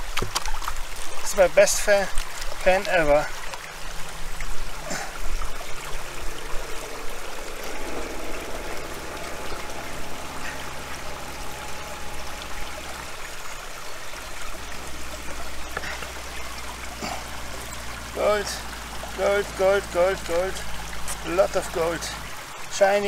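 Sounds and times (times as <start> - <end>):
brook water rushing: 0.0 - 23.0.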